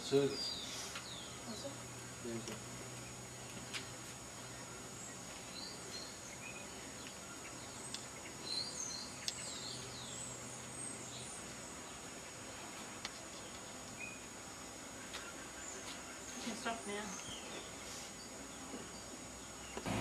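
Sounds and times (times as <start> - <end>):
birds chirping: 0.0 - 12.6, 13.2 - 20.0.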